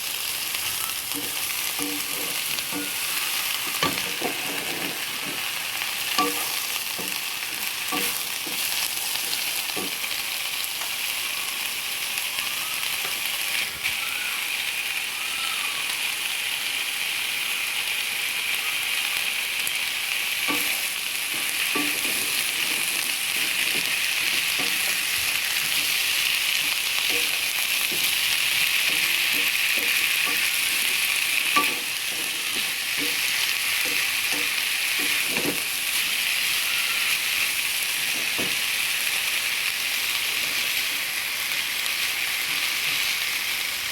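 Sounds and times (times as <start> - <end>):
food sizzling in oil: 0.0 - 43.9.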